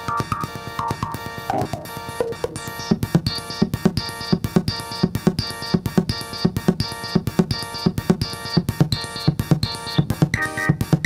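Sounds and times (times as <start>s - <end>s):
synthesizer percussive hits: 0.0s - 11.0s.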